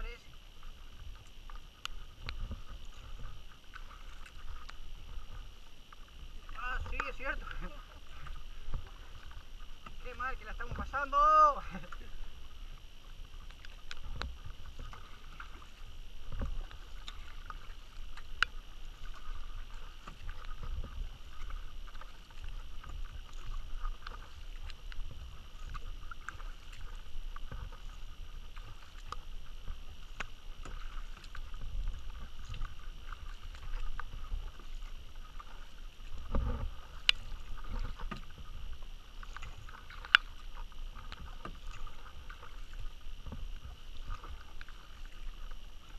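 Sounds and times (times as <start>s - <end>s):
water sloshing from paddle: 0.0s - 45.9s.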